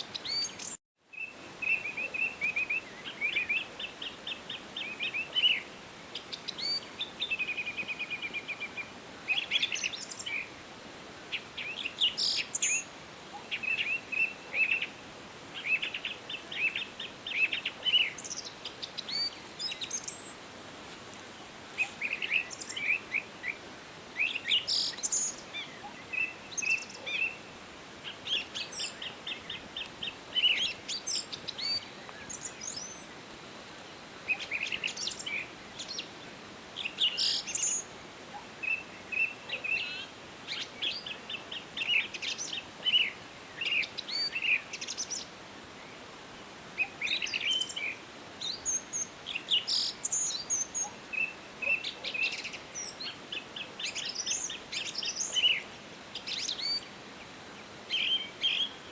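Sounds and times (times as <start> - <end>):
songbirds singing and calling: 0.0 - 10.6, 11.2 - 58.9
faint background hiss: 0.0 - 58.9.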